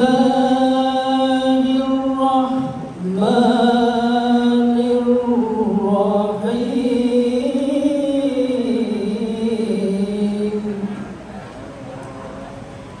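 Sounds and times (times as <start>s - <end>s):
solo voice chanting recitation: 0.0s - 11.2s.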